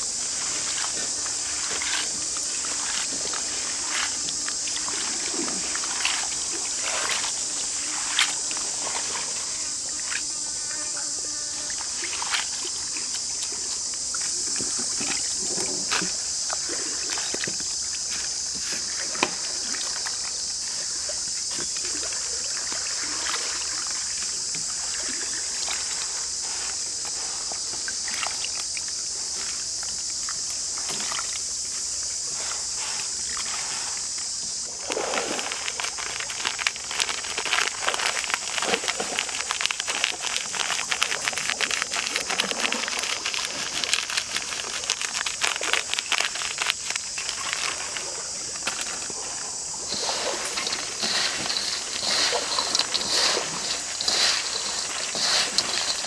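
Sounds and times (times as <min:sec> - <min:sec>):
water splashes: 0:00.0 - 0:10.2, 0:11.7 - 0:31.5, 0:32.3 - 0:56.0
water sloshing and trickling: 0:00.0 - 0:10.7, 0:11.6 - 0:56.0
high buzz of insects: 0:00.0 - 0:56.0.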